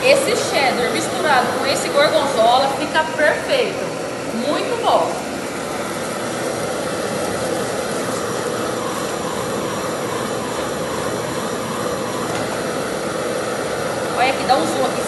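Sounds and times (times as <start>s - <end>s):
gas burner flame rushing: 0.0s - 15.0s.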